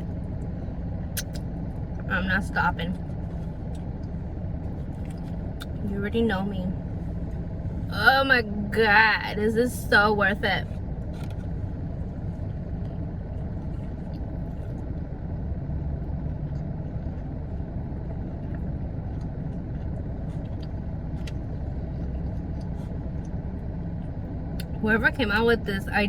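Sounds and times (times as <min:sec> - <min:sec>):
car idling from inside: 0:00.0 - 0:26.0.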